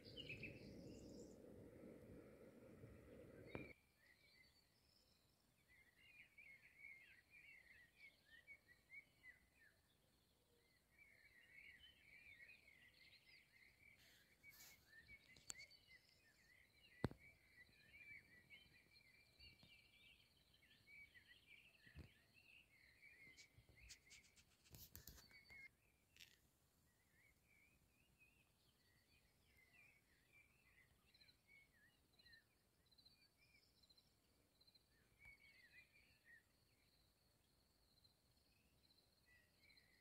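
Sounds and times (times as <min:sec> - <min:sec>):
faint birdsong: 0:00.0 - 0:40.0.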